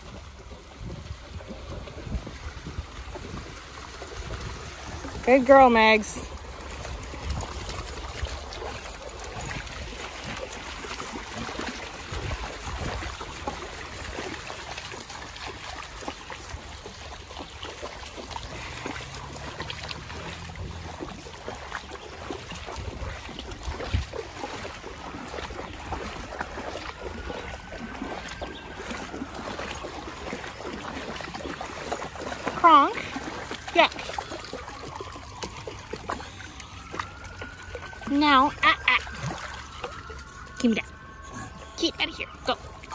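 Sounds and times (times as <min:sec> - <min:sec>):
creek water running over rocks: 0:00.0 - 0:42.9
dogs splashing through water: 0:00.0 - 0:42.9.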